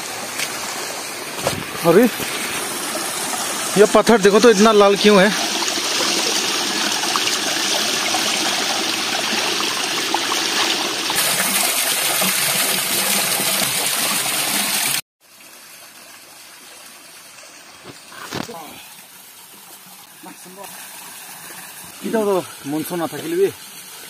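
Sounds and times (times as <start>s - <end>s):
stream splashing over rocks: 0.0s - 24.0s.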